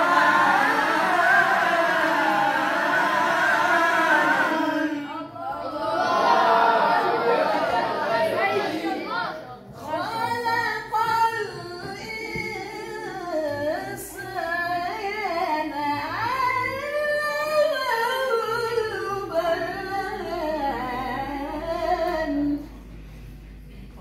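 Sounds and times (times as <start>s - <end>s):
melodic religious vocal chanting: 0.0s - 23.8s.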